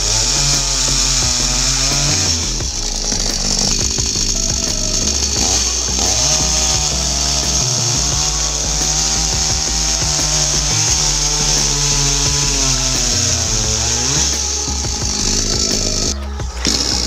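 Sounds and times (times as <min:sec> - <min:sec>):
chain cutting through log: 0:00.0 - 0:17.0
chainsaw engine running: 0:00.0 - 0:17.0.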